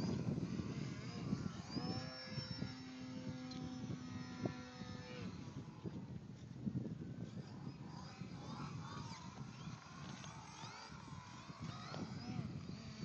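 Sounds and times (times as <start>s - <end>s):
model plane motor whine: 0.0s - 13.0s.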